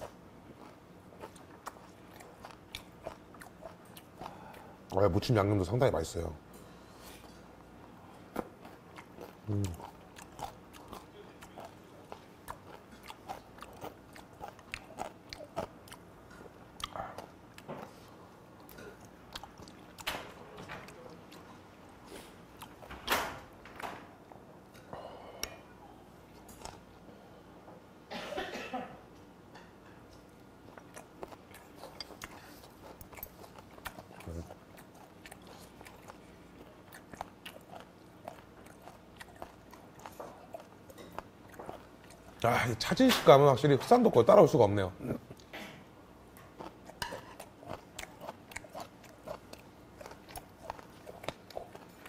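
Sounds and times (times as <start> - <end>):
man chewing wetly: 0.0 - 5.0, 7.2 - 22.9, 24.3 - 27.1, 30.0 - 42.5, 45.1 - 52.0.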